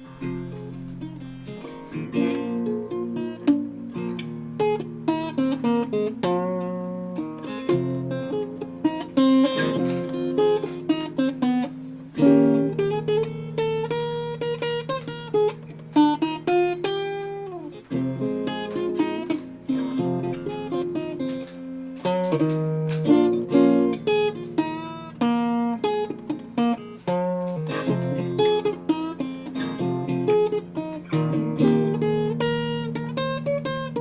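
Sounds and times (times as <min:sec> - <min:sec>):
acoustic guitar music: 0:00.0 - 0:34.0.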